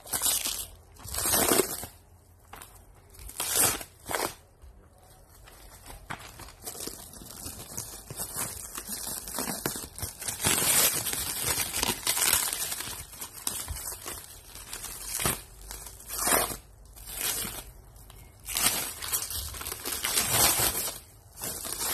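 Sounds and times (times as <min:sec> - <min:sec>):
plastic wrapping crinkling: 0:00.0 - 0:21.9.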